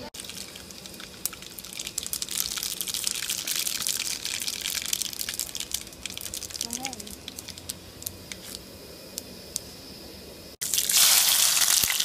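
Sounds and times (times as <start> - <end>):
hot oil sizzling in a pan: 0.2 - 9.1, 10.6 - 12.0.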